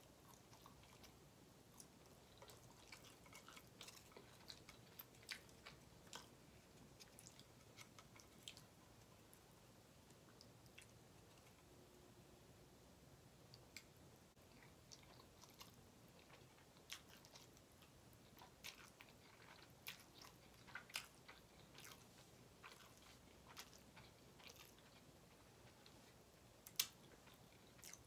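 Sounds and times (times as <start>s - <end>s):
chewing noodles: 0.1s - 9.5s, 13.5s - 28.0s.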